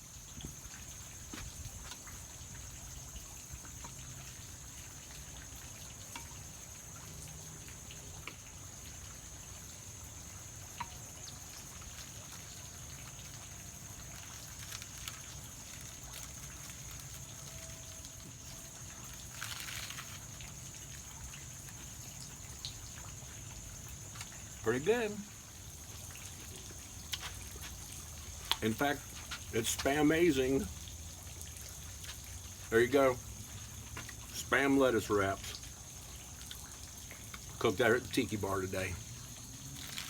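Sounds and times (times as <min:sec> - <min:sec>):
trickling water: 0:00.0 - 0:40.0.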